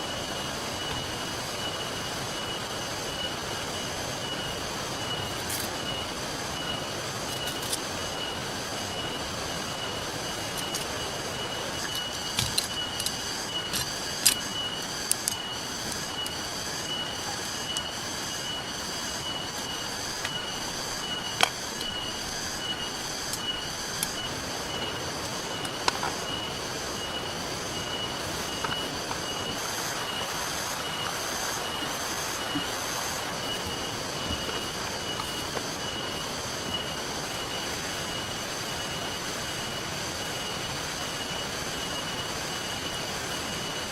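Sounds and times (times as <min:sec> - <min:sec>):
campfire crackling: 0:00.0 - 0:43.9
high pulsing chirp: 0:00.0 - 0:43.9
rain hissing: 0:00.0 - 0:43.9
river flowing: 0:00.0 - 0:43.9.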